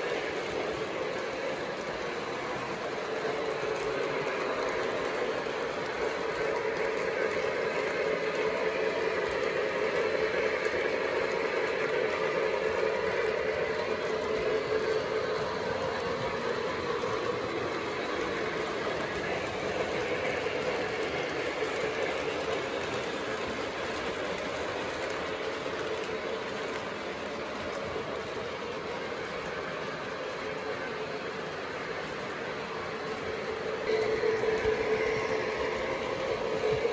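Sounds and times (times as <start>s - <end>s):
model train wheels and motor running: 0.0s - 36.9s.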